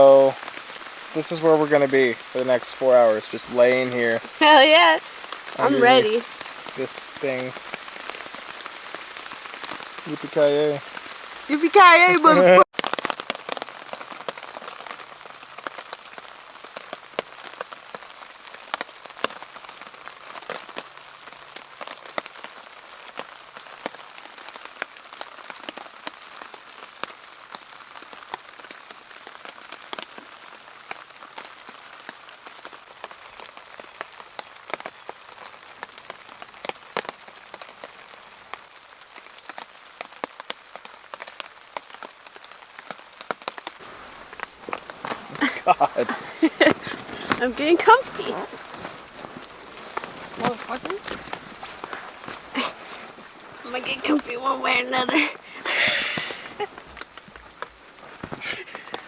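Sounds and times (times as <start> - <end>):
rain pattering on tarp: 0.0 - 59.0.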